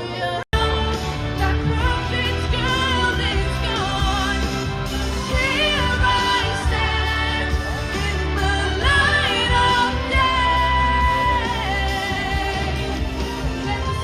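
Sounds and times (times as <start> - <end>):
amplified pop song with singing: 0.0 - 14.0
heavy bass line: 0.5 - 14.0.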